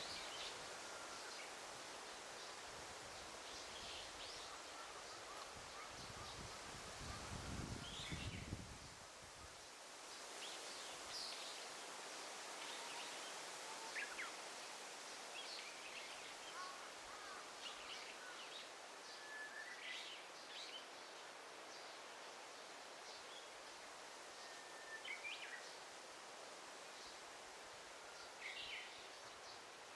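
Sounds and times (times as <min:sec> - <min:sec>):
soft forest hiss: 0:00.0 - 0:29.9.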